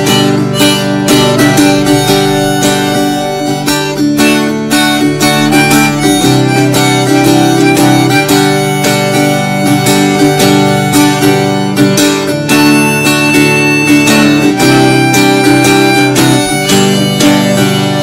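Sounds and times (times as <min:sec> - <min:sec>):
acoustic guitar strumming: 0:00.0 - 0:18.0
harmonica melody: 0:00.0 - 0:18.0.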